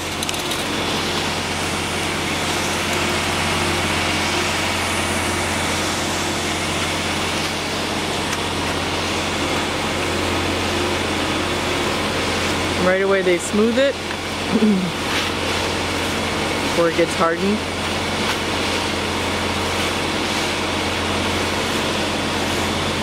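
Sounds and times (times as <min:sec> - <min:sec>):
loud mechanical pumping noise: 0:00.0 - 0:23.0
low engine hum: 0:00.0 - 0:23.0.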